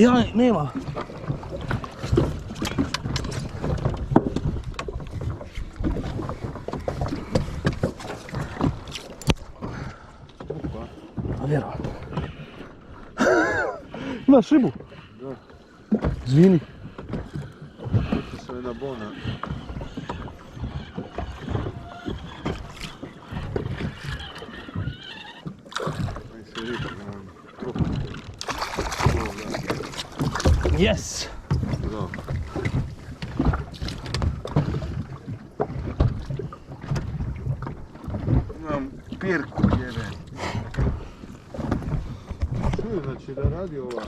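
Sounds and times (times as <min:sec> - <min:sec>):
water slapping boat hull: 0:00.0 - 0:44.0.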